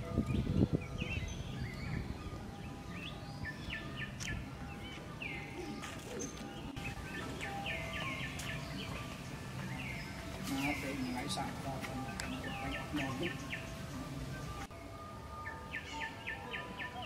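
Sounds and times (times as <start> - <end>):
birds chirping in trees: 0.0 - 17.0
low outdoor noise: 0.0 - 17.0.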